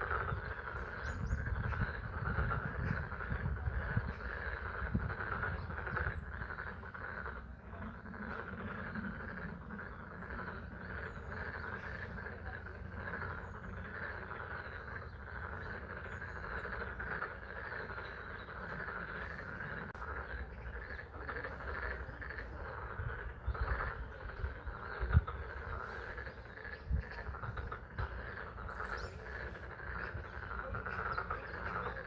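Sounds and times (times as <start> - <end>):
frogs chorus: 0.0 - 32.0.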